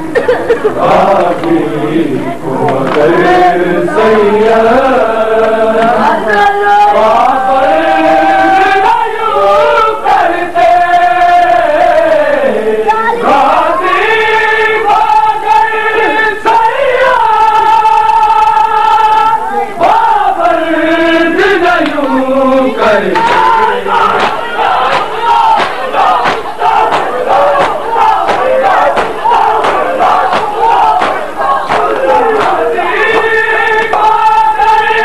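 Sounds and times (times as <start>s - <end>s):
group chanting a lament: 0.0s - 35.0s.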